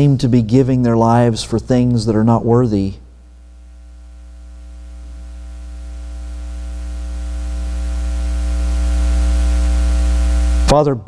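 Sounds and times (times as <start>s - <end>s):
faint steady tones: 0.0s - 10.7s
electrical hum and hiss: 0.0s - 11.0s.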